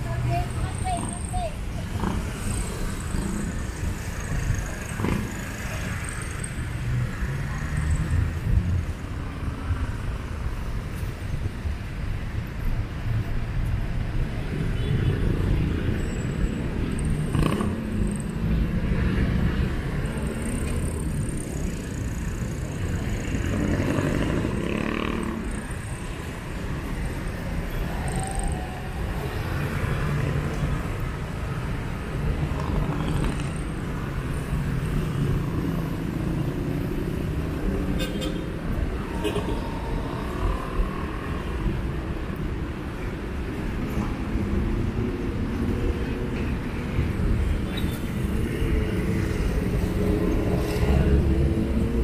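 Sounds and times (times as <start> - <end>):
road traffic passing: 0.0 - 52.0.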